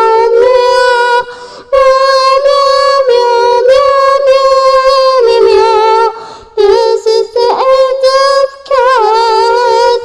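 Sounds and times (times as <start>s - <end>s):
high voice singing: 0.0s - 10.0s.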